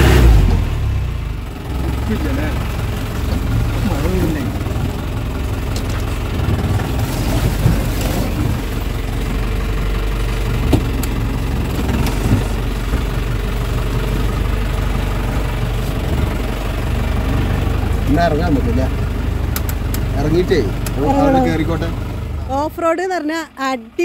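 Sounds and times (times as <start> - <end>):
jeep engine running: 0.0 - 24.0.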